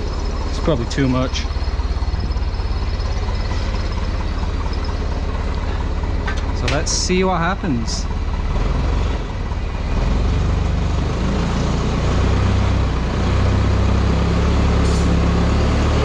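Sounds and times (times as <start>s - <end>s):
forklift engine under load: 0.0s - 16.0s.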